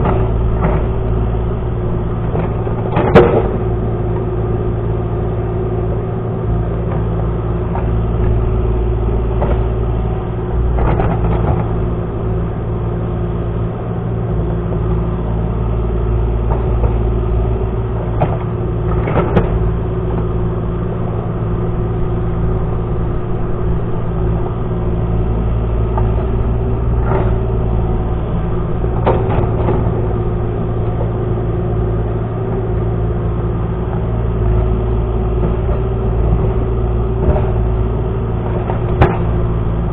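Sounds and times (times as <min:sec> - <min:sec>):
excavator engine whining: 0:00.0 - 0:39.9.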